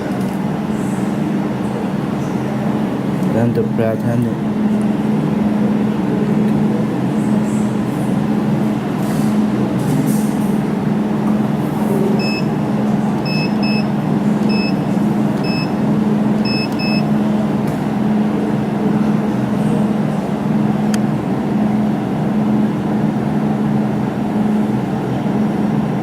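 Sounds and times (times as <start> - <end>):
laser welding machine humming: 4.4 - 26.0.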